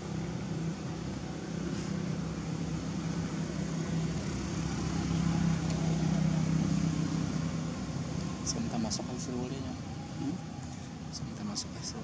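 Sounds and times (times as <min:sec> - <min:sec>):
engine running hum: 0:00.0 - 0:12.0.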